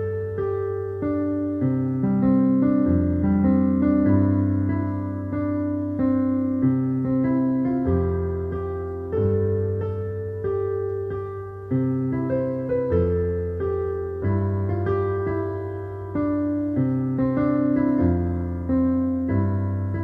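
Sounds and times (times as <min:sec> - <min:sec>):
slow keyboard music: 0:00.0 - 0:20.0.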